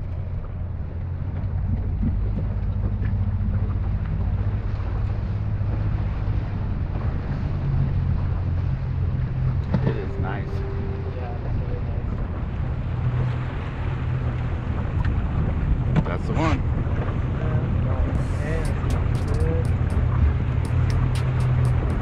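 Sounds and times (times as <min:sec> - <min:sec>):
boat motor running: 0:00.0 - 0:22.0
wind buffeting microphone: 0:00.0 - 0:22.0.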